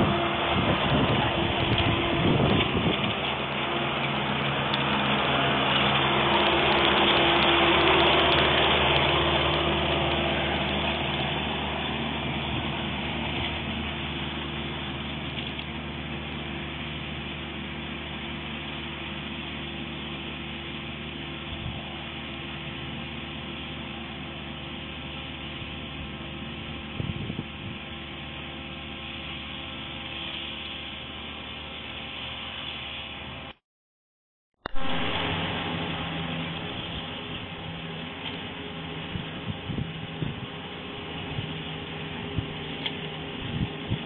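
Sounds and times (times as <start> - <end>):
ride-on mower cutting grass: 0.0 - 33.6, 34.7 - 44.0.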